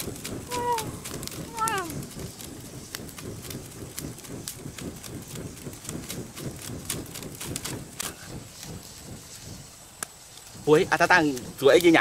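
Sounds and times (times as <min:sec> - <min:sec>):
hand fan whooshing: 0:00.0 - 0:12.0
wood fire crackling and popping: 0:00.0 - 0:12.0.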